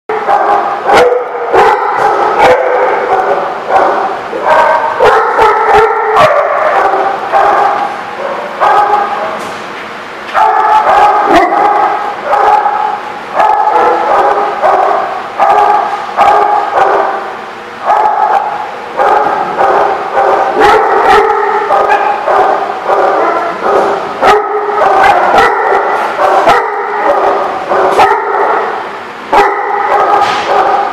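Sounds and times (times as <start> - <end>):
dogs barking and yipping: 0.1 - 9.4, 10.3 - 30.9.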